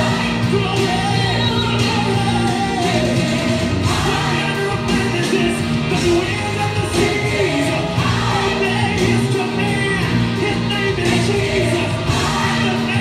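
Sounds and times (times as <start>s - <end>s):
gospel song with singing: 0.0s - 13.0s.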